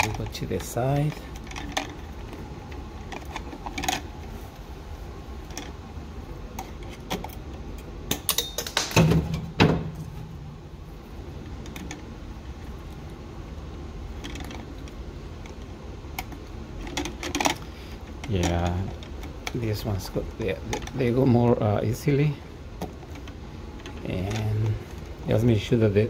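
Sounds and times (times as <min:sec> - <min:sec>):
wires clicking and scraping: 0:00.0 - 0:09.0, 0:10.0 - 0:26.0.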